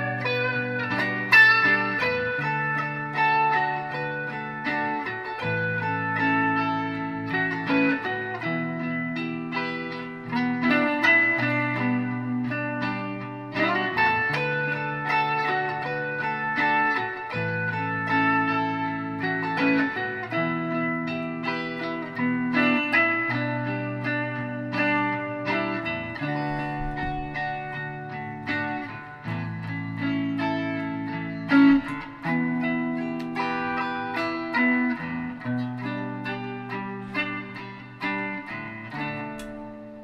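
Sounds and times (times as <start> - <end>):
electric guitar playing: 0.0 - 40.0.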